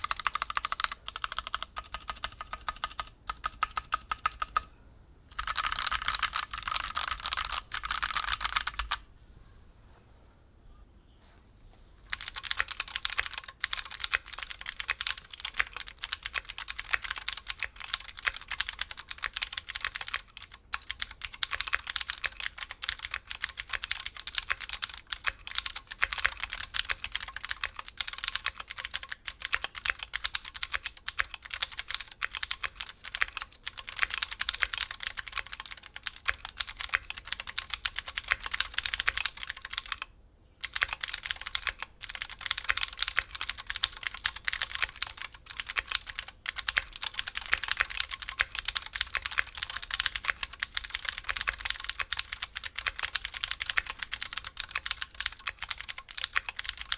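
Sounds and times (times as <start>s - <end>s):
mechanical keyboard typing: 0.0s - 4.7s, 5.3s - 9.0s, 12.1s - 56.9s.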